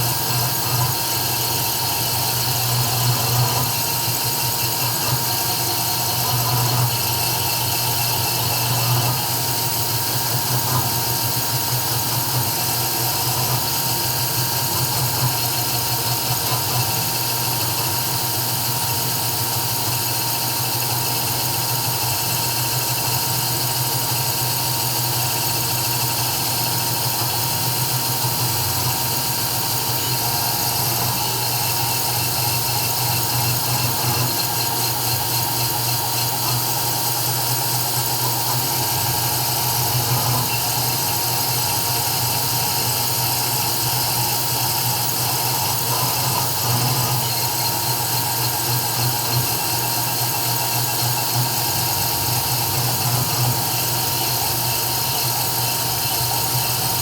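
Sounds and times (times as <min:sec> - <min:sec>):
router high-pitched whine: 0:00.0 - 0:57.0.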